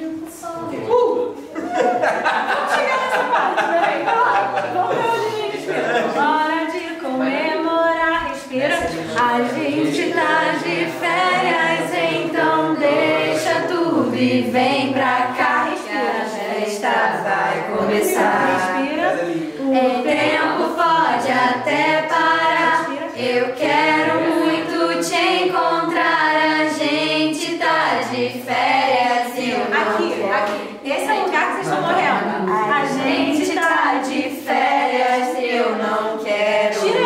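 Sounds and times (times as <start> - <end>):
group of voices singing: 0.0 - 37.0.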